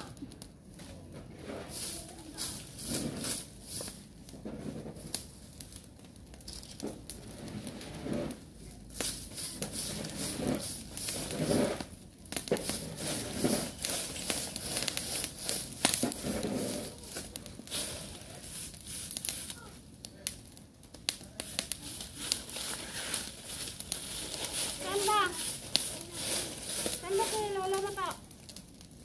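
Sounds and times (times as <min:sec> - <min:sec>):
broom sweeping dry leaves: 0:01.2 - 0:05.7, 0:06.8 - 0:19.8, 0:21.2 - 0:28.2.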